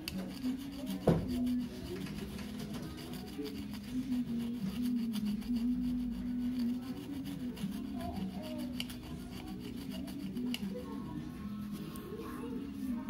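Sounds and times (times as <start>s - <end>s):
screwdriver scraping metal: 0.0s - 12.1s.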